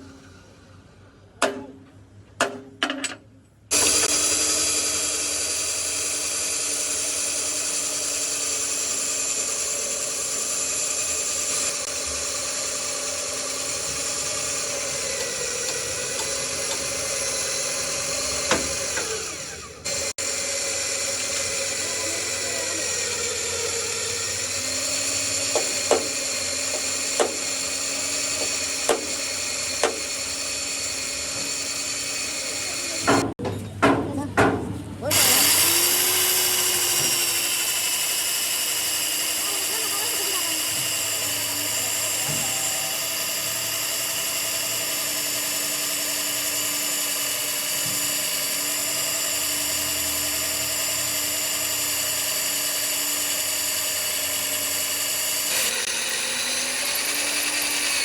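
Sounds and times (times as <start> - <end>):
high-pitched power tool: 3.7 - 33.4, 35.1 - 58.0.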